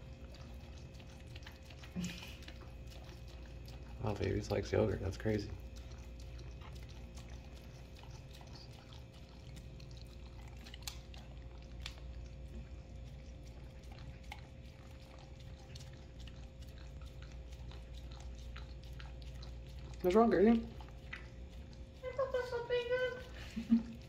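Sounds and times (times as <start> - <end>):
dogs licking food: 0.0 - 24.0.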